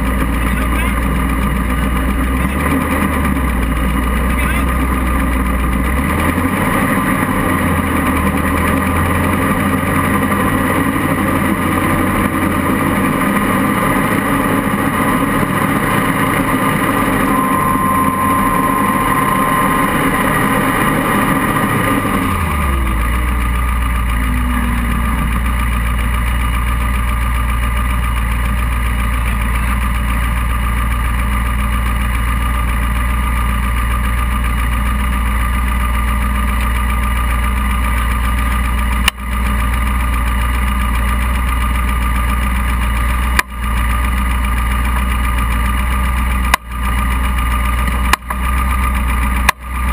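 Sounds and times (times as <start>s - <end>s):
buggy engine running and idling: 0.0s - 49.9s.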